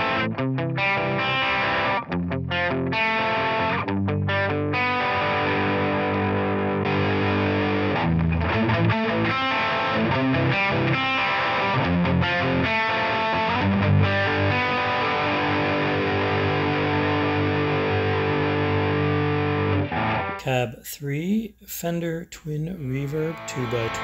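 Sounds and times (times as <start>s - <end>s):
overdriven electric guitar: 0.0s - 20.4s, 23.3s - 24.0s.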